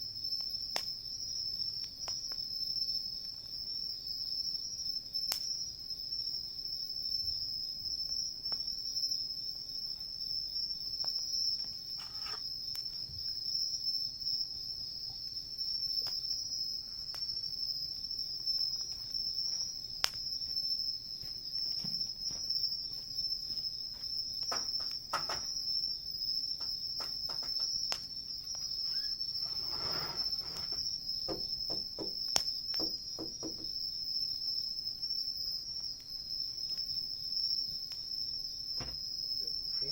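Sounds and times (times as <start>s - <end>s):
campfire crackling and popping: 0.0s - 39.9s
insects chorus calling: 0.0s - 39.9s.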